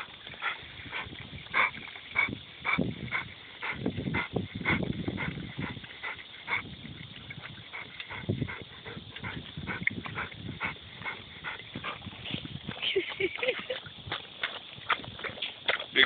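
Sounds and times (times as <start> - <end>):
dogs lapping water: 0.0 - 16.0.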